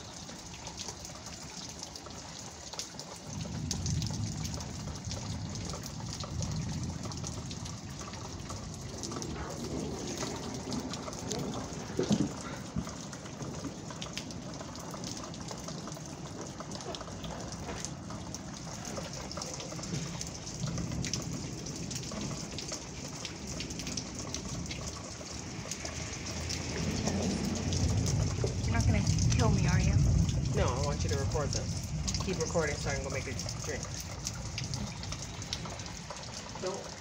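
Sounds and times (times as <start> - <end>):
rain falling: 0.0 - 37.0.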